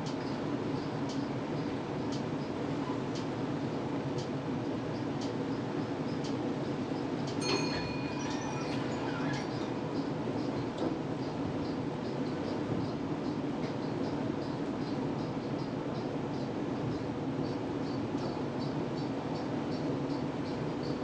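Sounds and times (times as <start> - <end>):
tram rumble: 0.0 - 21.0.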